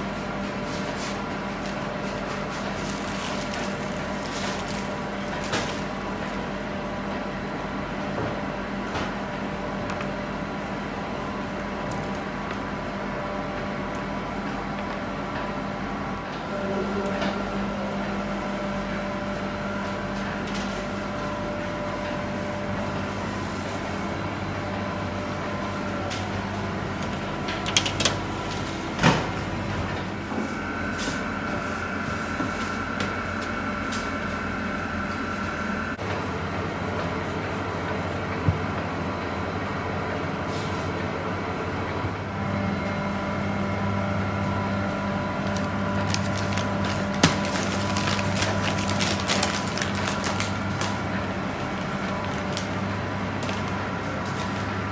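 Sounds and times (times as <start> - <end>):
kitchen machinery hum: 0.0 - 54.9.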